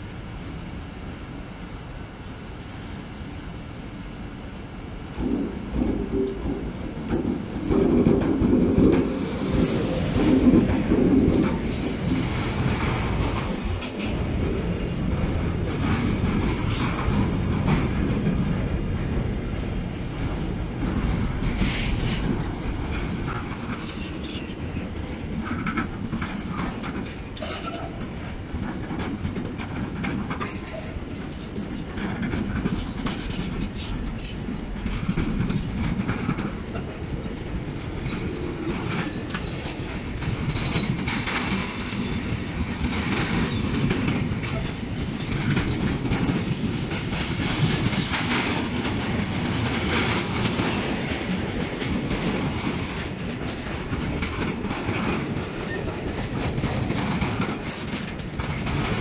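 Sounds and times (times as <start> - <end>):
freight train wagons rumbling: 3.8 - 59.0
wheels clacking over rail joints: 5.2 - 59.0.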